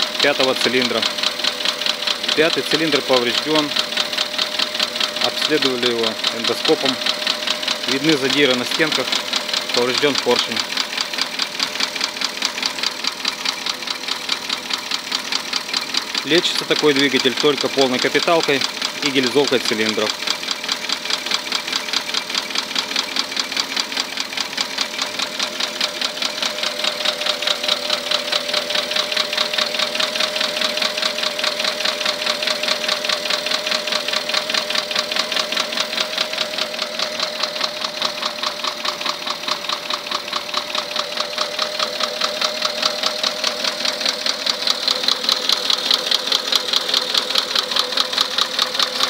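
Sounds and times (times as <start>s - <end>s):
engine idling with rhythmic knock: 0.0s - 49.0s.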